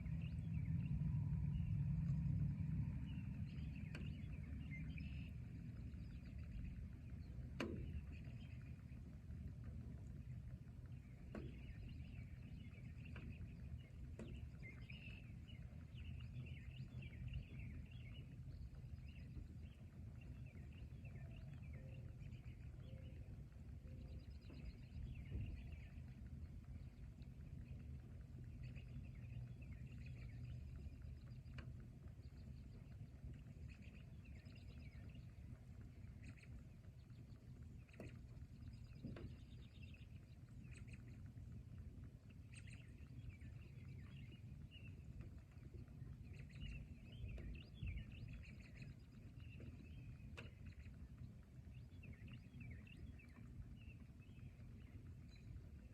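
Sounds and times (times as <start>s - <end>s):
birds chirping: 0.0s - 55.9s
faint low rumble: 0.0s - 55.9s.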